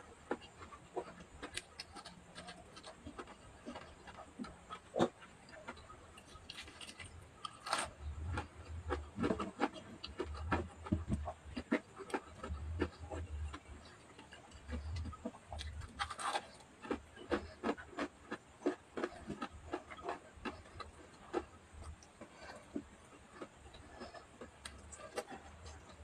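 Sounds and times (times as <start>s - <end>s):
person chewing with lip smacks: 0.2s - 26.0s.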